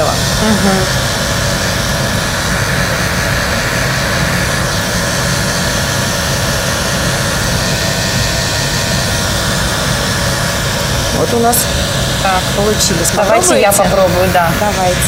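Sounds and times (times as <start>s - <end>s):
heat gun blowing air: 0.2s - 15.0s.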